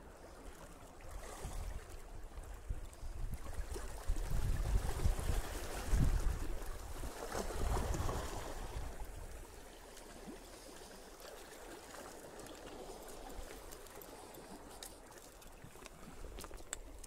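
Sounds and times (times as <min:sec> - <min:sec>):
waves lapping against rocks: 0:00.0 - 0:17.0.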